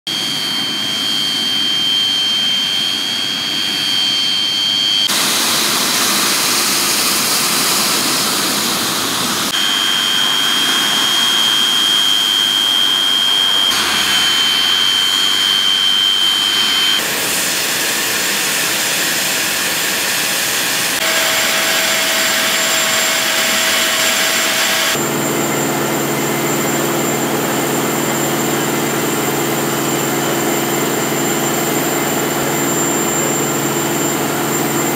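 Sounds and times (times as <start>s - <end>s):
high engine whine: 0.1s - 34.9s
jet engines running: 0.1s - 34.9s.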